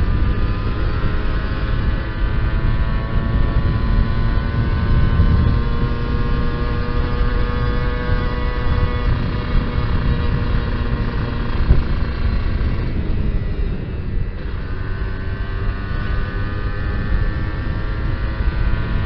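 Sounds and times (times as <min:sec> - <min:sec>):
two-stroke motorcycle engine: 0:00.0 - 0:19.0
wind rush on microphone: 0:00.0 - 0:19.0.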